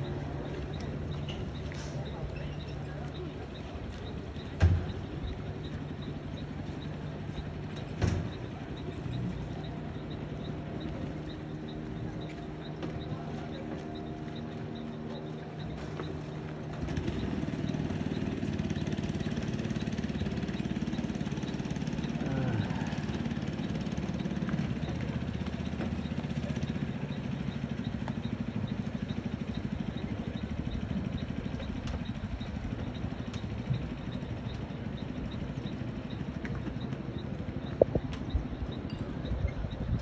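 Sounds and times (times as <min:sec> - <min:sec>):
engine chugging: 0:00.0 - 0:40.0.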